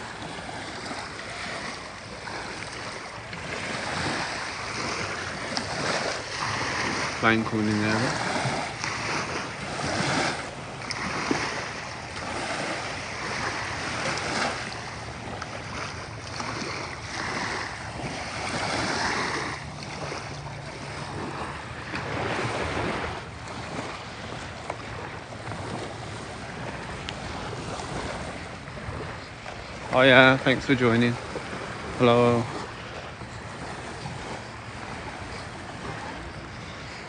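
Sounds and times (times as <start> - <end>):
waves washing onto beach: 0.0 - 37.0
wind gusting on microphone: 0.0 - 37.0.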